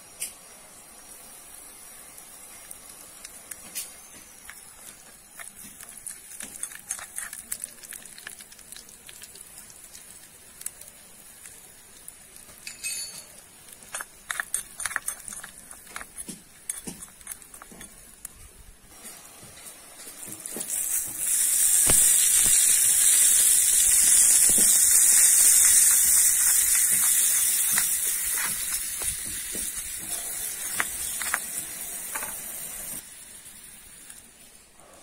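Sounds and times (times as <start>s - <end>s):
food sizzling in a pan: 0.0s - 34.8s.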